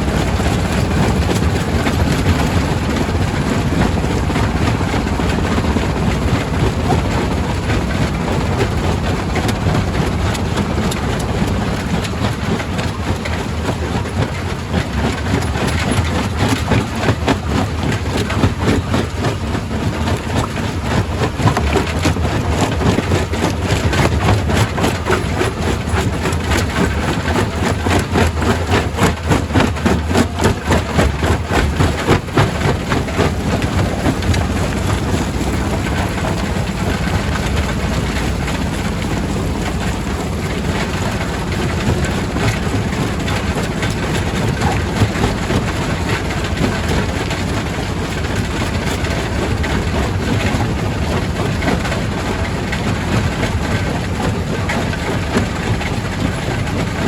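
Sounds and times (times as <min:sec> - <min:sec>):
rock crusher engine drone: 0:00.0 - 0:57.0.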